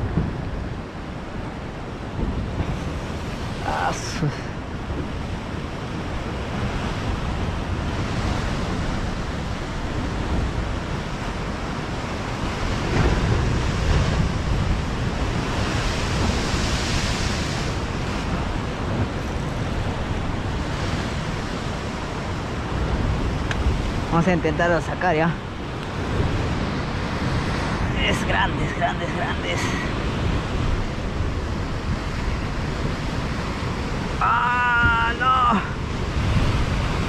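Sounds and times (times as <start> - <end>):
ocean surf breaking on rocks: 0.0 - 37.0
wind rumbling on microphone: 0.0 - 37.0.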